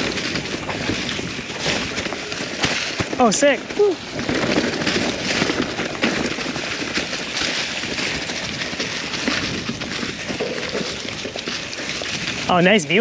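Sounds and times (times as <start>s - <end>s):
bike rattling: 0.0s - 13.0s
tyres rolling over dirt and rock: 0.0s - 13.0s.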